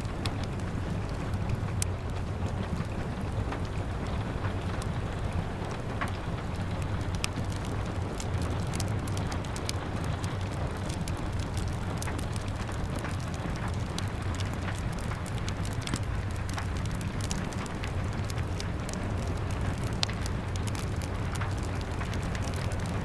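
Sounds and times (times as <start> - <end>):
rain against a window: 0.0 - 23.0
wood fire crackling: 0.0 - 23.0.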